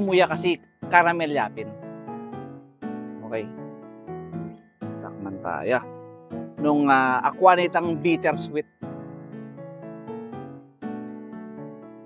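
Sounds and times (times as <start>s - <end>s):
piano-like keyboard chords: 0.0s - 12.0s.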